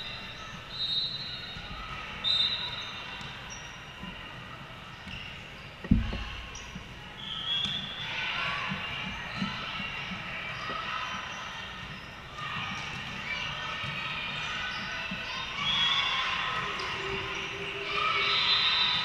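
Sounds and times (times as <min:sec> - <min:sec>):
low background murmur: 0:00.0 - 0:19.0.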